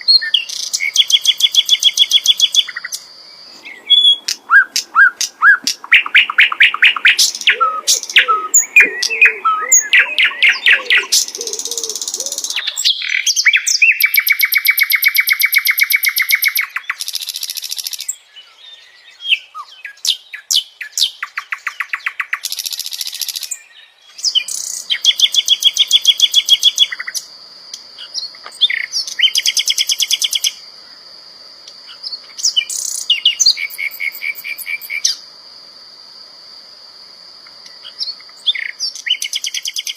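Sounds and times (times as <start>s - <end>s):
songbird singing trills: 0.0s - 31.0s, 31.7s - 35.2s, 37.6s - 39.9s.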